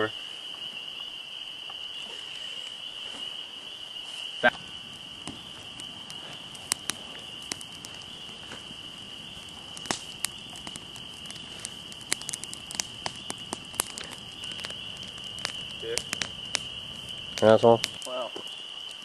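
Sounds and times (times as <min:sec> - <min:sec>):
insect chorus: 0:00.0 - 0:19.0
campfire crackling and popping: 0:00.4 - 0:19.0.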